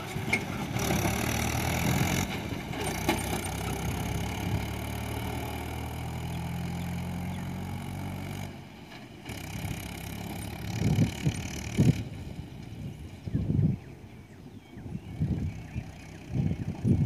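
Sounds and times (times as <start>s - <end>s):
diesel tractor engine running: 0.0s - 17.0s
quieter engine sound: 0.0s - 17.0s.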